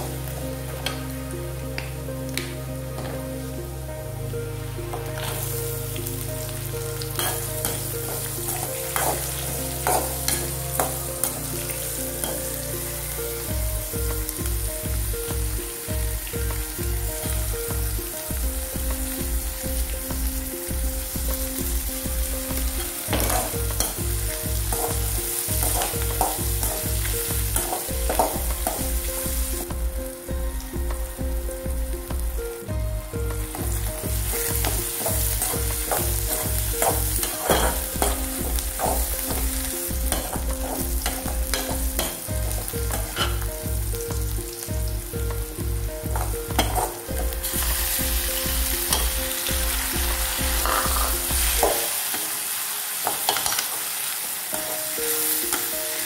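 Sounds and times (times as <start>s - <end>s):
onion sizzling in hot oil: 0.0s - 56.0s.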